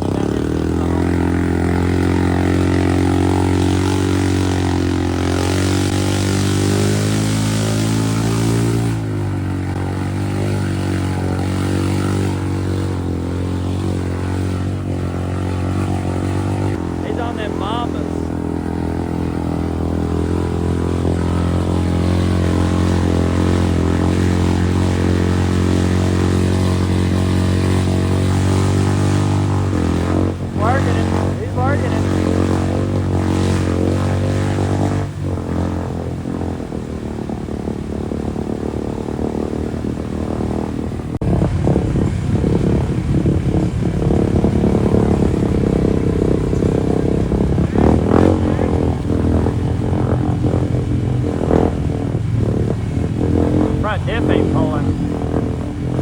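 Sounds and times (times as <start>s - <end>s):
atv engine at high revs: 0.0s - 56.0s.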